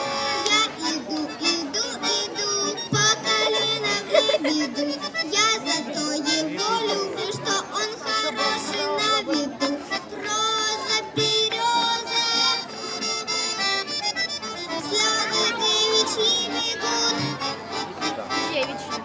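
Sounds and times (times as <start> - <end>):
accordion playing folk music: 0.0 - 19.0.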